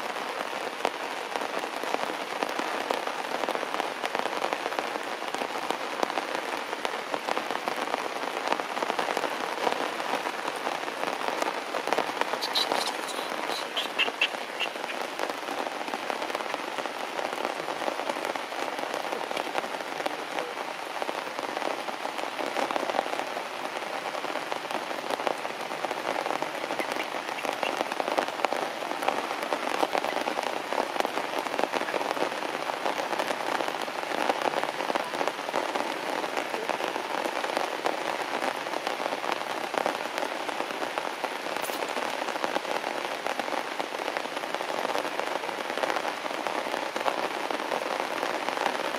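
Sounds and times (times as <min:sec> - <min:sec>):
heavy rain on grass and leaves: 0:00.0 - 0:48.9.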